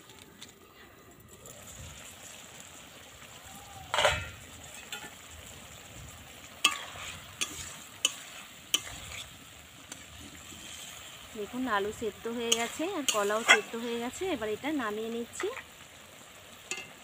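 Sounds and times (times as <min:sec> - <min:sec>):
hiss from hot pot: 0:00.0 - 0:17.0.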